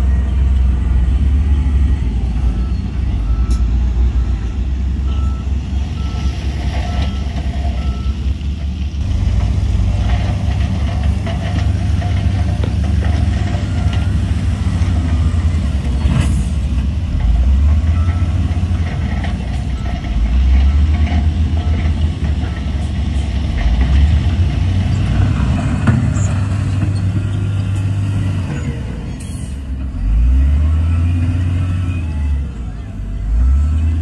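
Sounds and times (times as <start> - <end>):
heavy diesel engine droning: 0.0 - 34.0.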